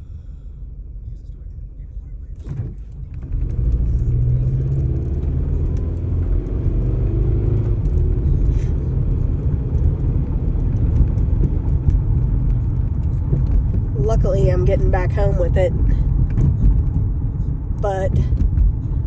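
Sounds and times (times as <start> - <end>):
road noise inside car: 0.0 - 19.0
rough car engine knocking: 0.0 - 19.0.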